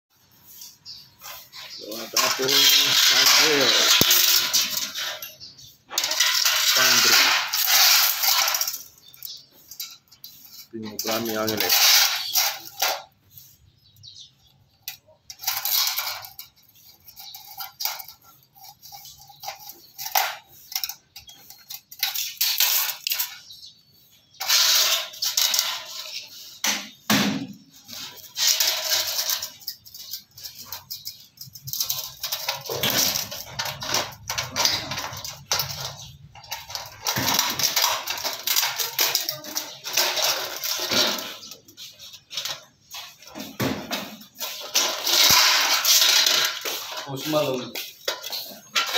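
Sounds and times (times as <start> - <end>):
plastic rattling on tile floor: 0.4 - 13.4, 14.7 - 23.7, 24.4 - 48.9.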